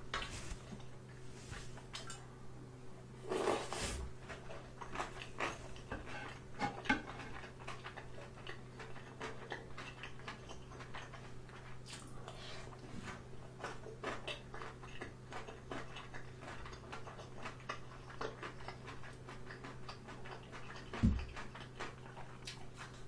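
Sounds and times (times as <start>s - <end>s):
low electrical hum: 0.0s - 23.0s
crunching kimchi: 3.3s - 23.0s
wet chewing and smacking: 4.1s - 23.0s.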